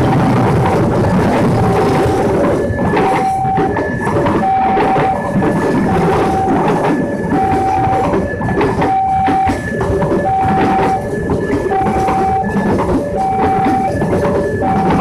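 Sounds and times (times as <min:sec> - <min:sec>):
two-tone warning signal: 0:00.0 - 0:00.5, 0:01.4 - 0:15.0
machine engine running: 0:00.0 - 0:15.0.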